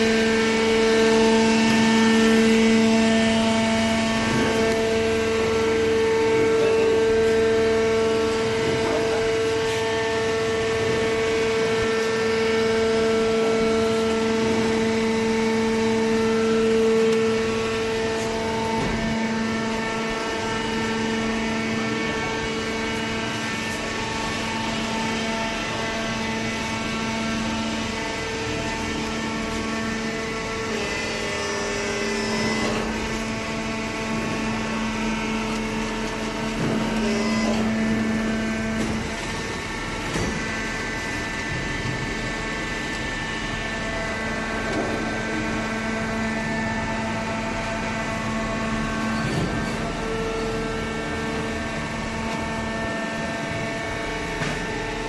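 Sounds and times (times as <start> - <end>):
baler humming drone: 0.0 - 55.0.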